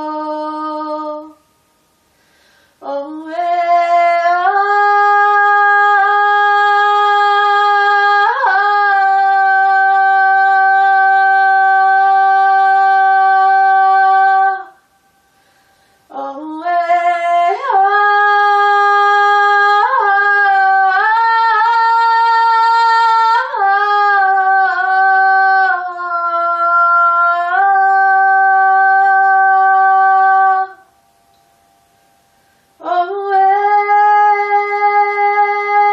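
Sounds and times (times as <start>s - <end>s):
woman singing wordless tones: 0.0s - 2.1s, 2.8s - 15.4s, 16.0s - 31.5s, 32.8s - 35.9s.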